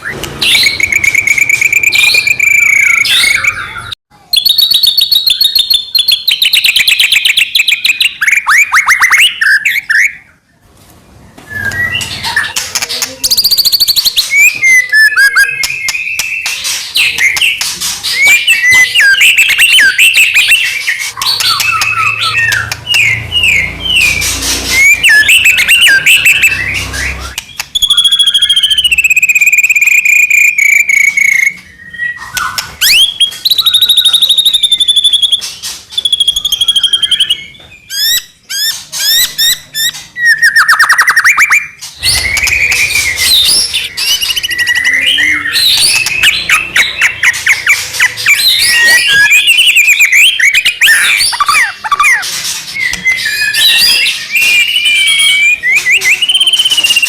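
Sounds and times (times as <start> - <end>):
songbird singing: 0.0 - 10.7, 11.4 - 57.0.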